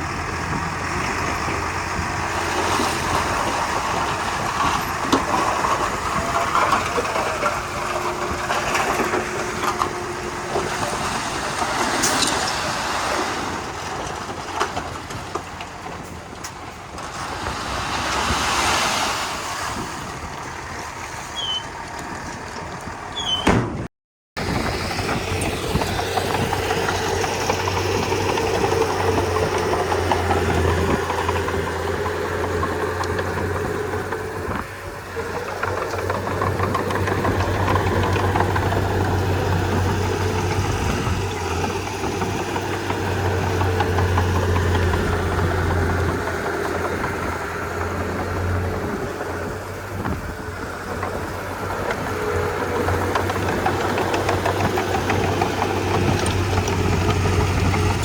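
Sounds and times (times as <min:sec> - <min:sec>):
bulldozer diesel engine running: 0:00.0 - 0:23.8, 0:24.4 - 0:58.0.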